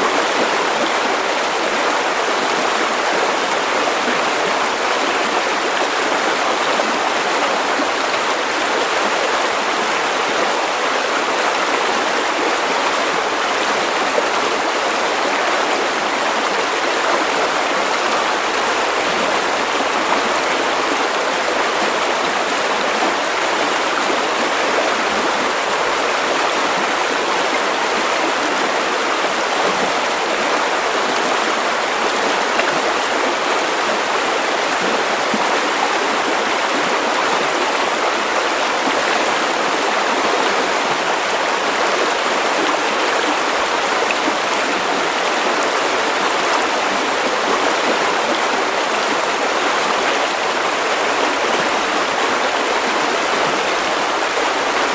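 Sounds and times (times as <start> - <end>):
river rushing over stones: 0.0 - 54.9.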